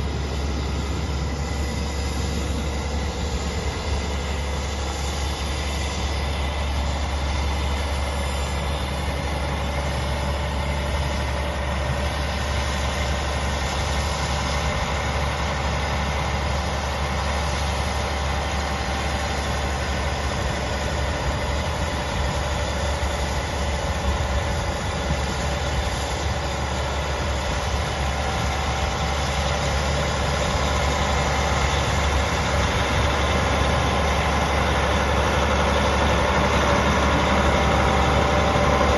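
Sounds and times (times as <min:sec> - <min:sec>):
diesel tractor engine idling: 0:00.0 - 0:38.9.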